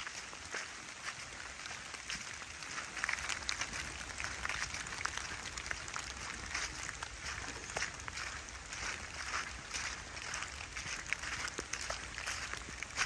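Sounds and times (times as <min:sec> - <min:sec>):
footsteps through wet leaves: 0:00.0 - 0:13.0
rain pattering on leaves: 0:00.0 - 0:13.0.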